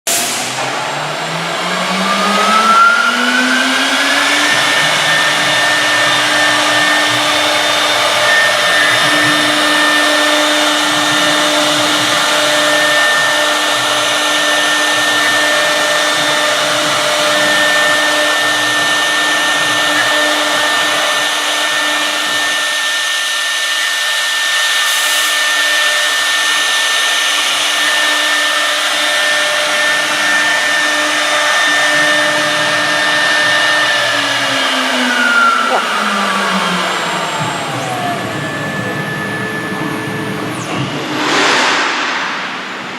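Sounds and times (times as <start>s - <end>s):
router spindle whining: 0.4s - 41.2s.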